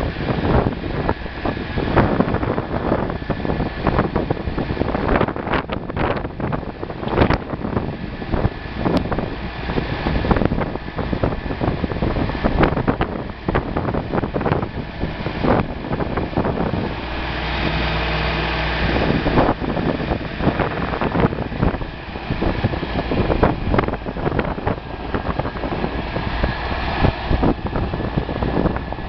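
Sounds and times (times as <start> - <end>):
tractor diesel engine running: 0.0 - 29.0
wind buffeting microphone: 0.0 - 29.0.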